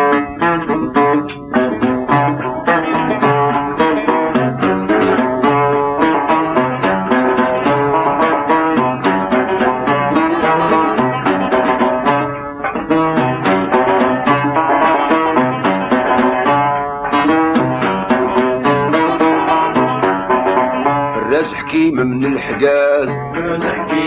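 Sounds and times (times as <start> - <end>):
plucked string instruments melody: 0.0 - 24.0.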